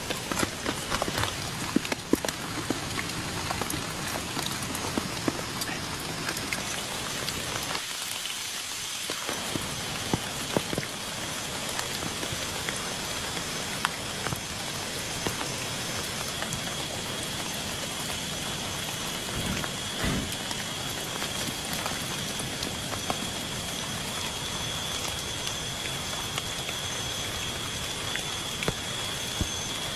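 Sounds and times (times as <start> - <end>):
raindrops striking close by: 0.0 - 29.9
steady rain falling: 0.0 - 29.9.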